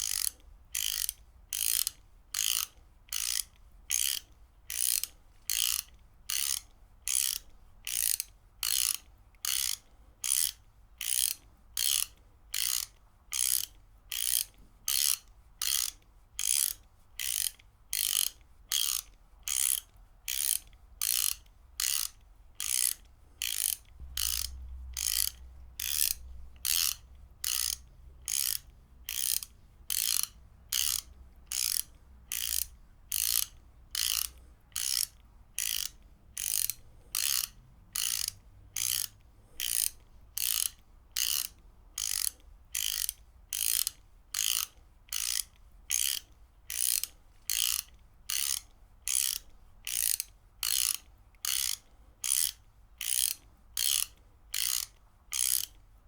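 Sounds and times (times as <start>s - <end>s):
ratchet wrench clicking: 0.0s - 55.8s.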